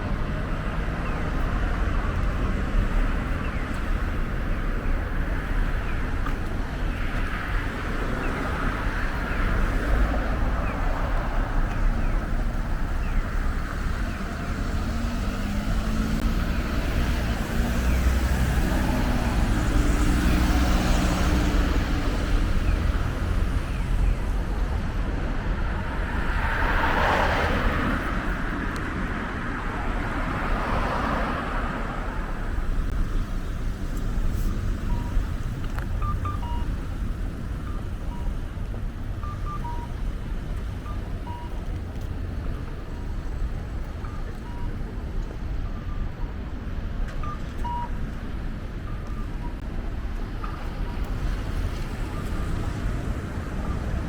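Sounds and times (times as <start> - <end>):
traffic rumble: 0.0 - 54.0
vehicles passing: 0.0 - 54.0.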